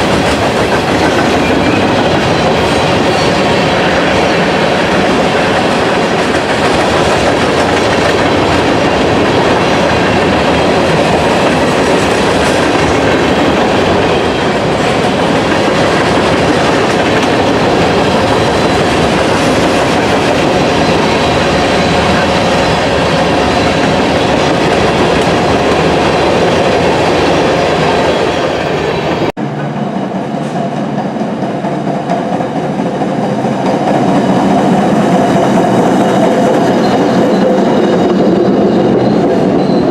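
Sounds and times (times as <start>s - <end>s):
freight train cars rolling on rails: 0.0s - 39.9s.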